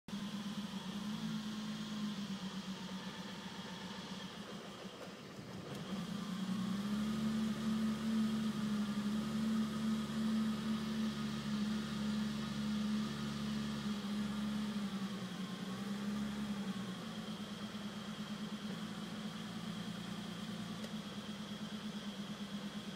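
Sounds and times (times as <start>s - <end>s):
car engine idling: 0.1s - 22.9s.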